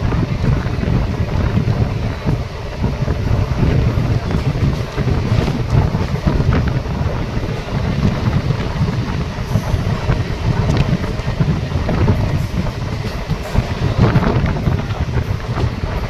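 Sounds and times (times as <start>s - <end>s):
train coaches rumbling on track: 0.0s - 16.0s
wind buffeting microphone: 0.0s - 16.0s.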